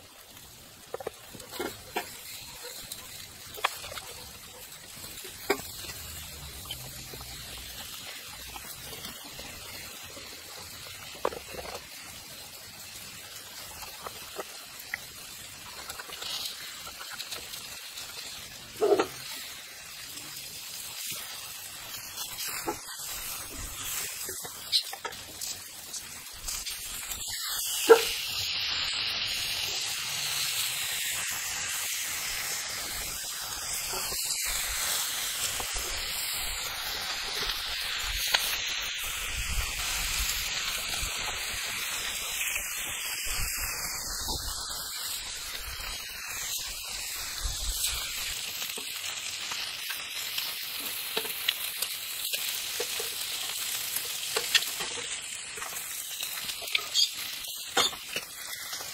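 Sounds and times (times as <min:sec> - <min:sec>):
food sizzling in a frying pan: 0:00.0 - 0:58.9.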